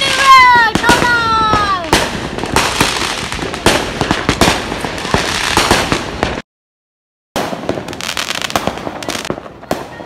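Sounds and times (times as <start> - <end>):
fireworks bangs and crackling pops: 0.0 - 6.4, 7.4 - 10.0.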